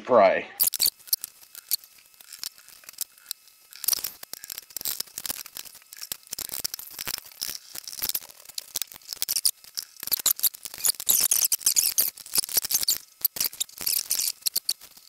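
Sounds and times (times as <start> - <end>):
plastic drone clicks and scrapes: 0.6 - 15.0.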